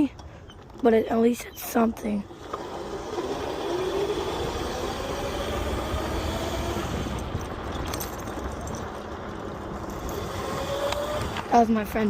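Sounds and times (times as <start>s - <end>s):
dirt bike engine rumbling: 0.0s - 12.0s.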